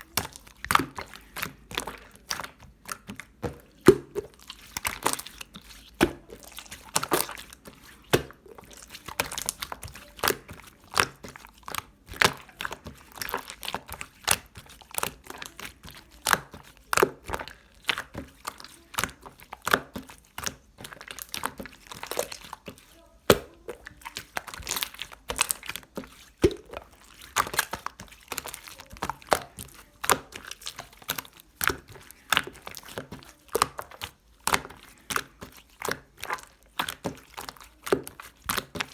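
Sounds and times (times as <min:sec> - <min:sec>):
slime clicking and popping: 0:00.0 - 0:38.9.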